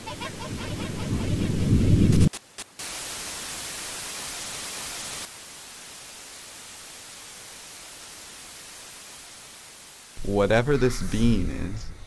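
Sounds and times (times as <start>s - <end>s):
television static hiss: 0.0s - 12.0s.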